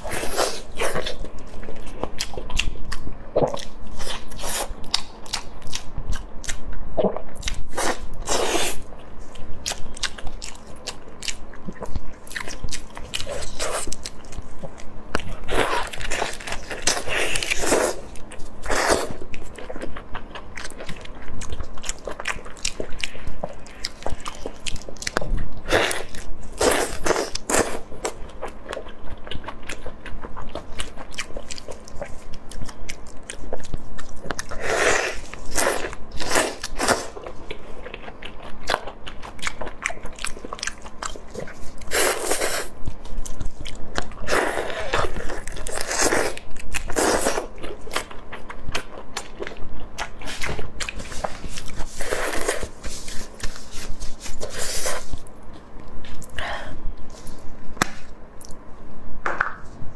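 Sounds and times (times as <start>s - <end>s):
crunching and chewing shrimp: 0.0s - 58.7s.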